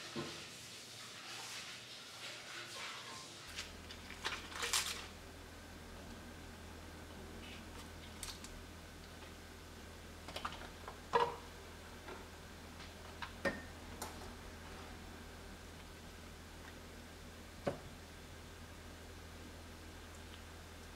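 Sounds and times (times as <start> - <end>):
faint low hum: 3.5 - 20.9.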